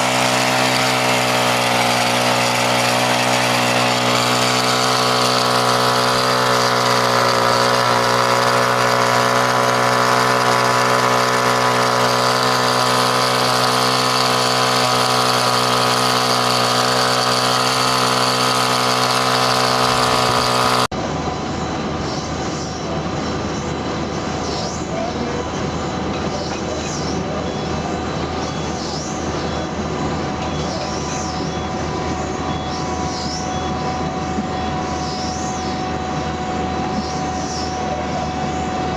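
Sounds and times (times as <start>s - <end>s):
machine droning: 0.0s - 38.9s
noisy machine running: 0.0s - 38.9s.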